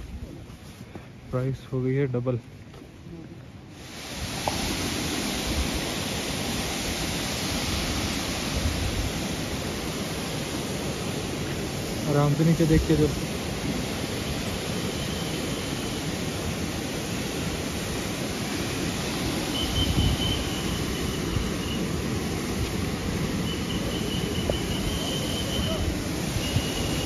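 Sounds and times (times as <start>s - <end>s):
water rushing down rock: 3.8s - 27.0s.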